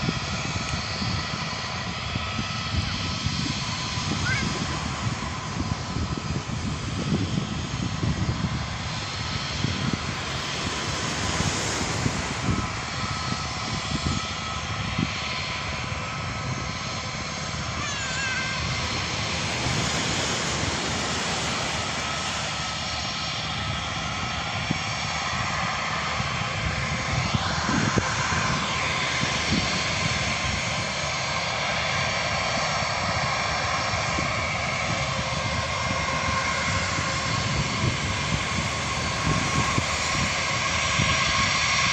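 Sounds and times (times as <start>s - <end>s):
jet engines rushing: 0.0s - 41.9s.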